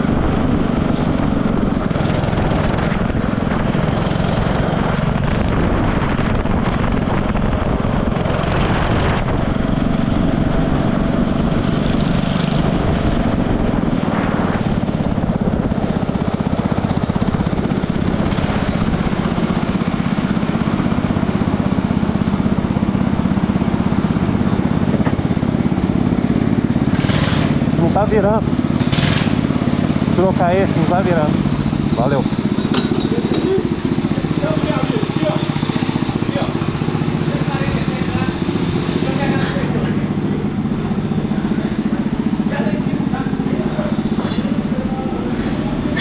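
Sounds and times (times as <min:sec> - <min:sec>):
go-kart engine running: 0:00.0 - 0:46.0.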